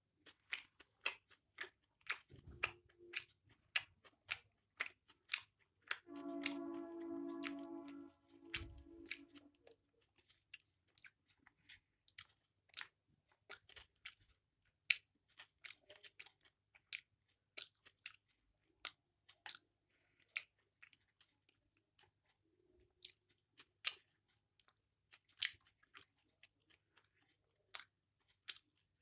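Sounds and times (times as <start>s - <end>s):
close chewing of noodles: 0.0s - 29.0s.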